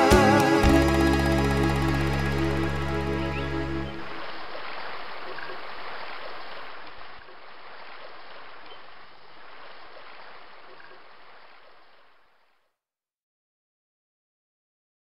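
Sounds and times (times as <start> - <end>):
flowing water: 0.0 - 12.6.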